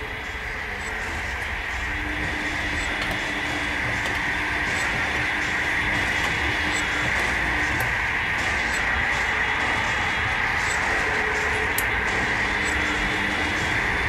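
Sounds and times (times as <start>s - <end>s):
rumbling rushing drone: 0.0s - 14.0s.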